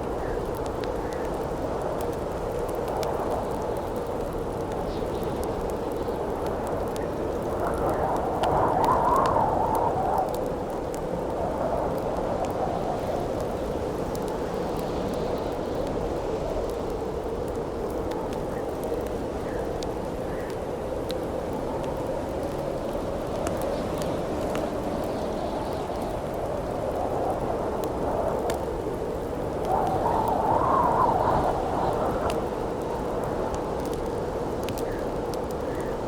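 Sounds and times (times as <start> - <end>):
campfire crackling and popping: 0.0 - 36.0
howling wind: 0.0 - 36.0.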